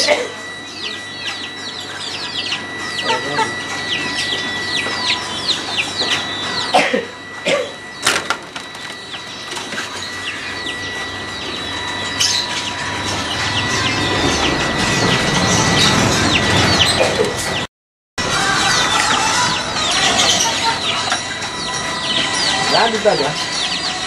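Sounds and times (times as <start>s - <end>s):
high-pitched tone: 0.0s - 24.0s
small birds chirping: 0.5s - 6.8s, 7.8s - 17.6s, 18.6s - 24.0s.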